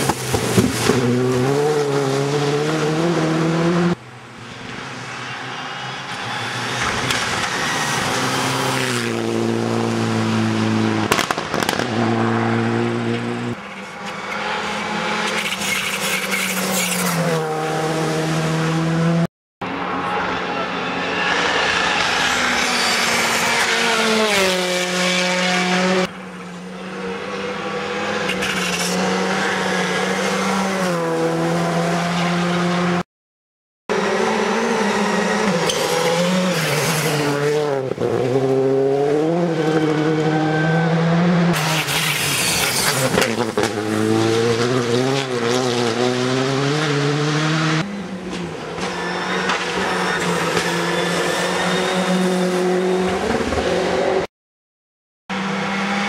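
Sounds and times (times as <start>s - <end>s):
rally cars passing at speed: 0.0s - 33.0s, 33.9s - 54.3s, 55.3s - 56.0s.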